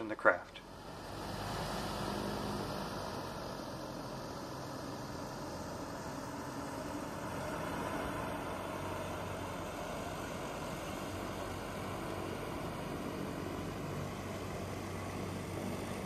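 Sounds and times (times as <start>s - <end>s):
hovercraft engine and fans droning: 0.0s - 16.0s.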